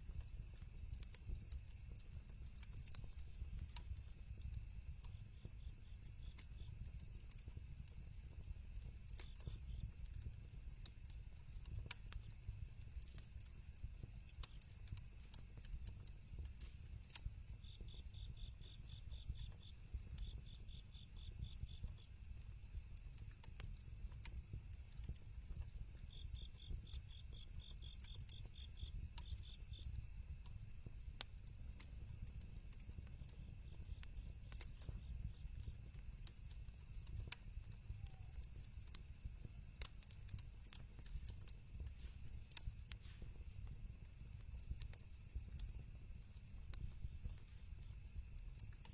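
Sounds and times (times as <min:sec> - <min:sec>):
campfire crackling and popping: 0:00.0 - 0:48.9
crickets chirping: 0:00.0 - 0:48.9.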